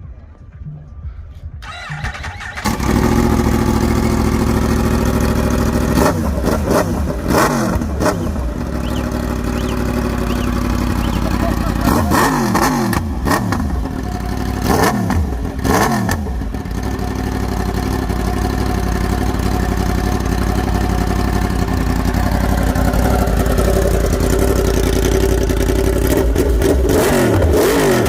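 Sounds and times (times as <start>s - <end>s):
motorcycle engine revving: 1.6s - 28.0s.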